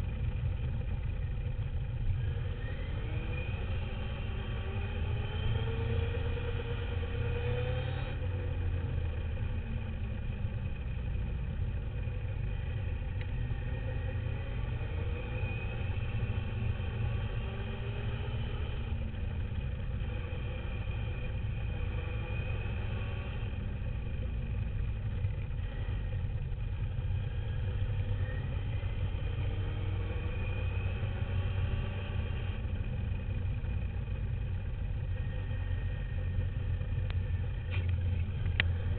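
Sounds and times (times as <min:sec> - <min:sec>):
wind and vibration rumble: 0:00.0 - 0:38.9.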